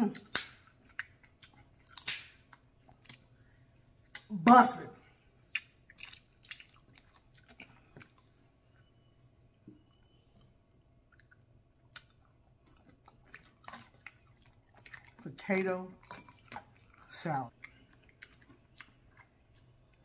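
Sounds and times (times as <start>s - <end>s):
wet chewing and mouth smacks: 0.2s - 3.4s, 5.4s - 15.3s, 16.4s - 20.0s.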